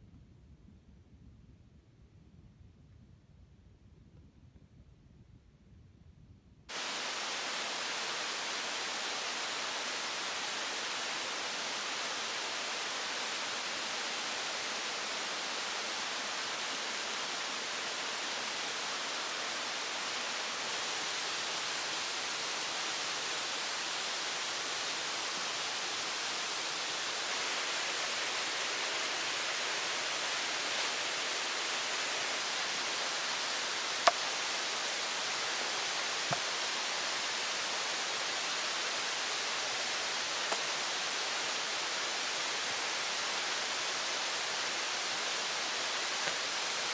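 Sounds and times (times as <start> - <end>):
water flowing: 6.7 - 46.9.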